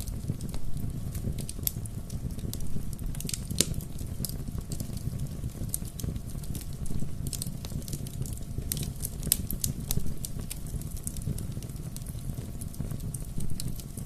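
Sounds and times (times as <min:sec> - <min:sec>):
low rumble of flame: 0:00.0 - 0:14.0
wood crackling and popping: 0:00.0 - 0:14.0.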